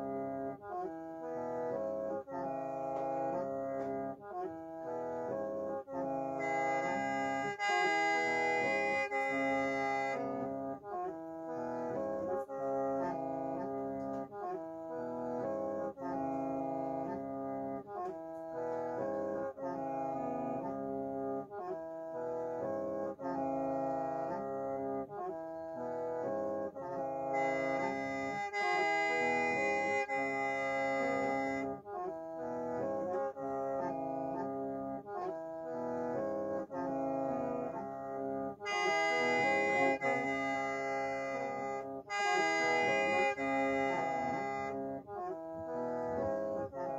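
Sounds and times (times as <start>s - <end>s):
bamboo mouth organ chords: 0.0s - 46.9s.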